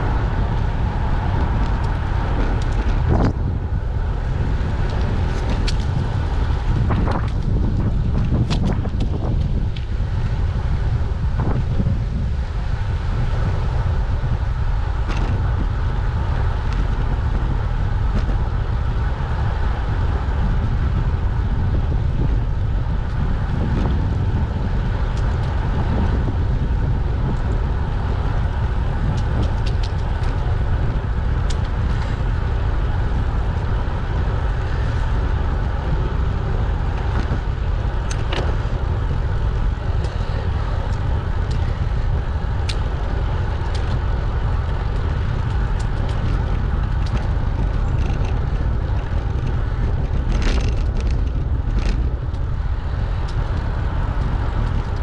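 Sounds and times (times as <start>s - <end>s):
bicycle tyre noise: 0.0s - 55.0s
wind on microphone: 0.0s - 55.0s.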